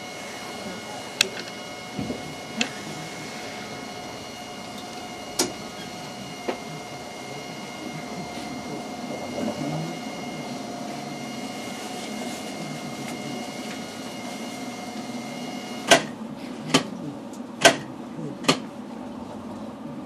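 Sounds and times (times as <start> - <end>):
electrical hum with high whine: 0.0 - 20.0.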